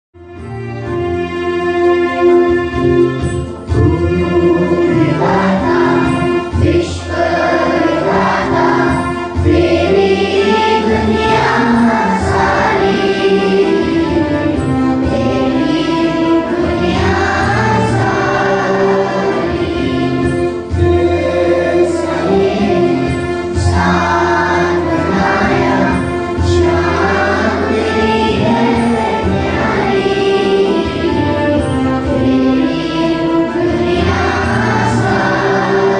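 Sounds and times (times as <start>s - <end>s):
instrumental accompaniment: 0.2s - 35.9s
children singing in chorus: 3.9s - 35.9s.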